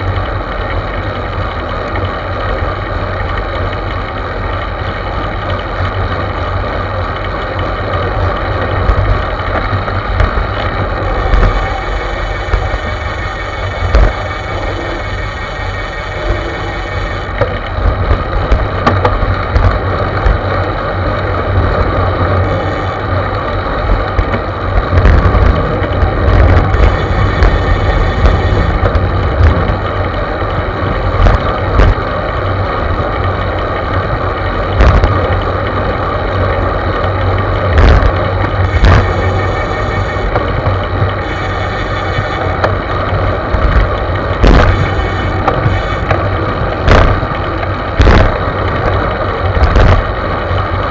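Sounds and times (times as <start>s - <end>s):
road rumble: 0.0s - 50.9s
wind rushing over microphone: 7.7s - 50.9s.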